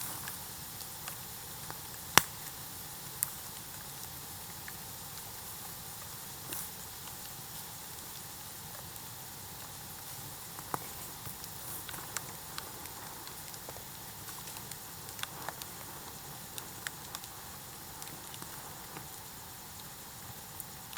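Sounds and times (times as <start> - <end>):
bonfire crackling: 0.0 - 20.9.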